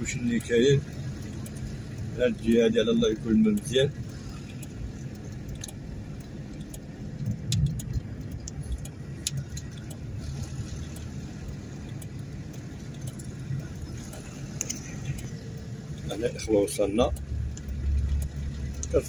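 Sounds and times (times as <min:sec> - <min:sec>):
car engine and tyre rumble: 0:00.0 - 0:19.0
small rattles and clicks: 0:00.0 - 0:19.0.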